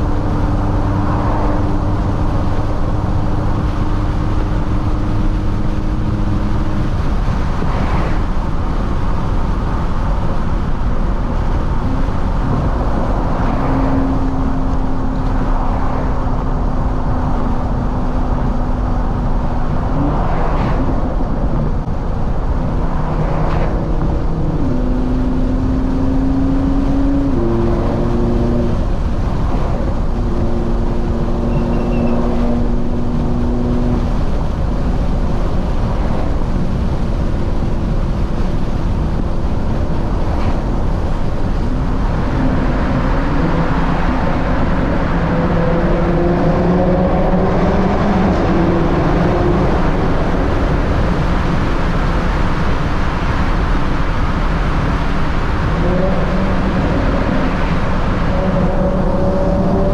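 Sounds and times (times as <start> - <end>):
car engine from inside cabin: 0.0 - 59.9
tyre and road noise: 0.0 - 59.9.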